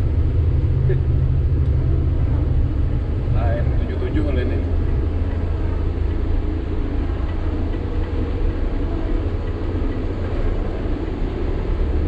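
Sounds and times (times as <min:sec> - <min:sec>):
road and rolling noise: 0:00.0 - 0:12.0
truck diesel engine rumbling: 0:00.0 - 0:12.0.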